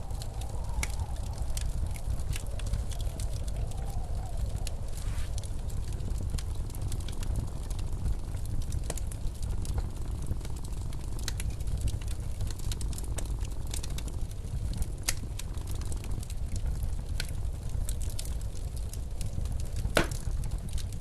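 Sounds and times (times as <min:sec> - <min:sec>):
blizzard wind rumbling: 0:00.0 - 0:21.0
wood fire crackling and popping: 0:00.0 - 0:21.0.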